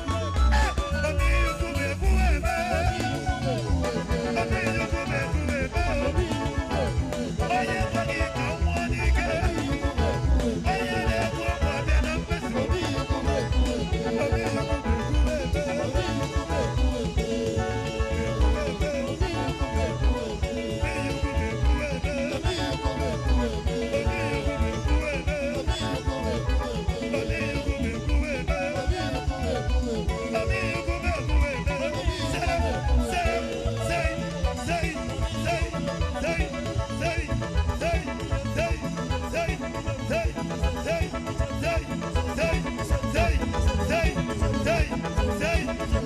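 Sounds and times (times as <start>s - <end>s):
music with singing: 0.0s - 46.0s.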